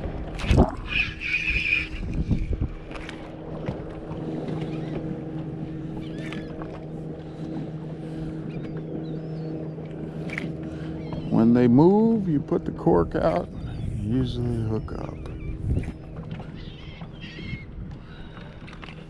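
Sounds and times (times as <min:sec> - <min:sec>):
boat motor humming: 0:00.0 - 0:19.0
seabirds calling: 0:00.0 - 0:19.0.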